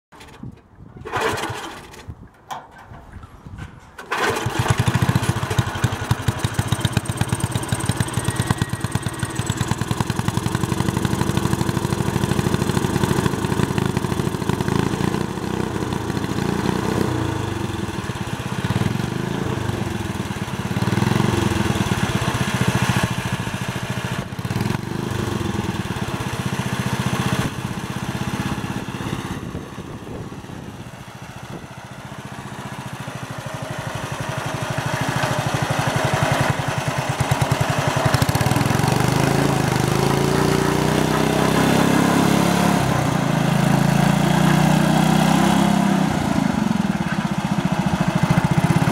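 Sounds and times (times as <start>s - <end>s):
garden tractor engine revving: 0.2s - 3.1s, 4.0s - 48.9s.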